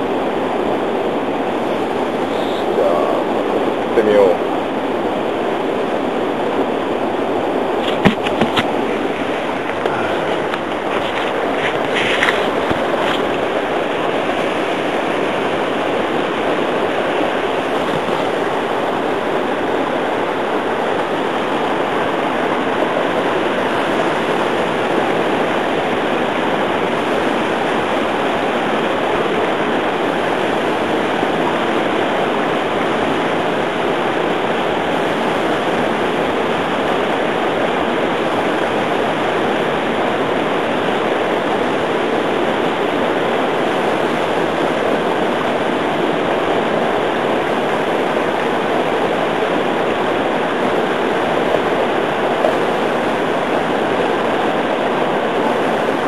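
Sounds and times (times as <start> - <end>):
river rapids roaring: 0.0 - 56.0.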